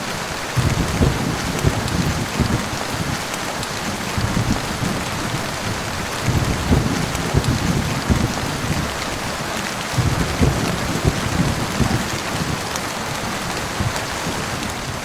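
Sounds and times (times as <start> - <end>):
heavy rain falling: 0.0 - 15.0
thunder rumbles: 0.3 - 15.0.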